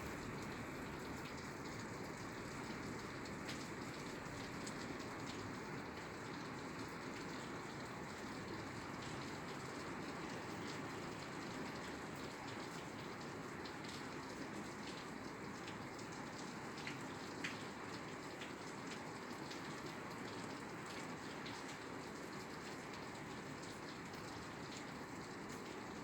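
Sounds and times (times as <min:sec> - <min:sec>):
rain on a roof: 0:00.0 - 0:26.0.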